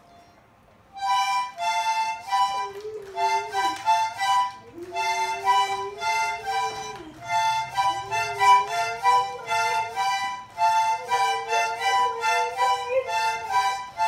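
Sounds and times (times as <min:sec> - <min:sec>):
toy accordion pulsing chords: 0:00.9 - 0:14.0.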